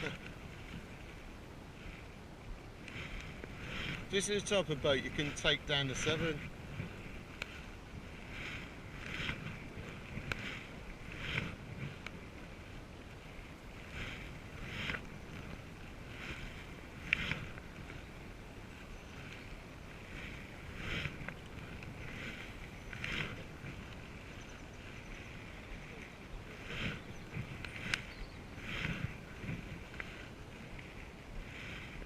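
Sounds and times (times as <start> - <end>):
canoe paddles splashing water: 0.0 - 32.0.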